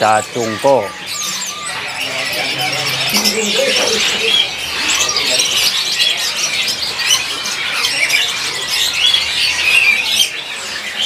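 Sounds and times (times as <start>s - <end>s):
caged songbirds chirping: 0.0s - 11.0s
leafbird singing: 0.0s - 11.0s.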